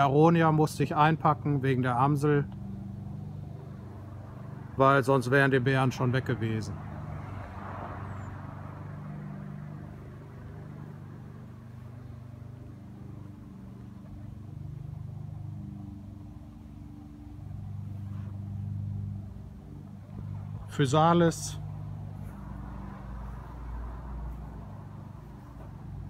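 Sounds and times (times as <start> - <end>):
low hum of vehicle engines: 0.0 - 26.0.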